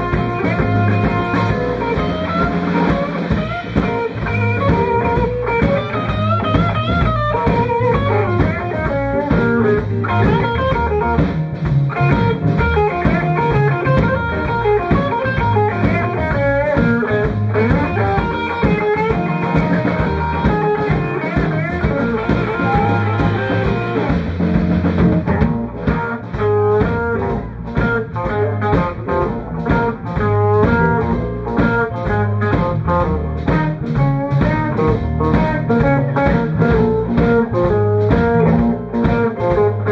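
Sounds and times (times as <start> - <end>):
drum kit: 0.0 - 39.9
electric bass: 0.0 - 39.9
electric guitar with bent notes: 0.0 - 39.9.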